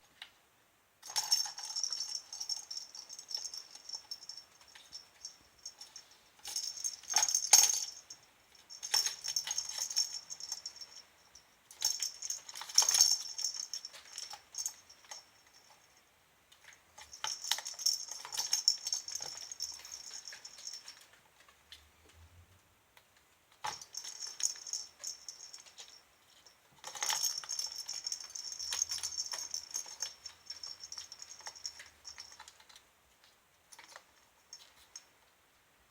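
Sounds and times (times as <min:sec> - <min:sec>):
toy rattling and jingling: 0:01.0 - 0:21.2, 0:23.6 - 0:32.8, 0:33.7 - 0:35.2.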